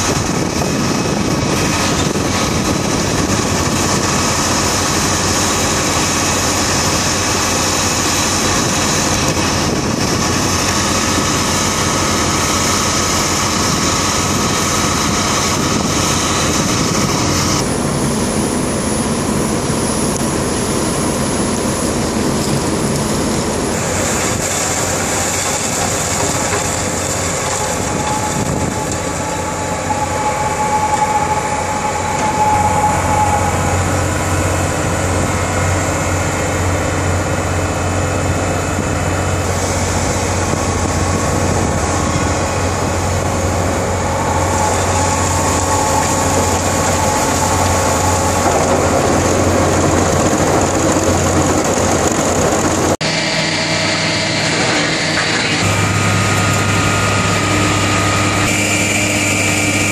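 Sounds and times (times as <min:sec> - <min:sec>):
diesel engine and air compressor: 0:00.0 - 0:59.9.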